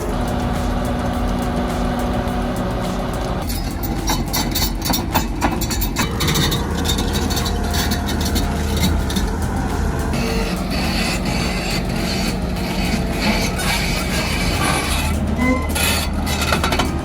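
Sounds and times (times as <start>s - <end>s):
heavy machine engine running: 0.0s - 17.0s
knocks and clanks: 0.0s - 17.0s.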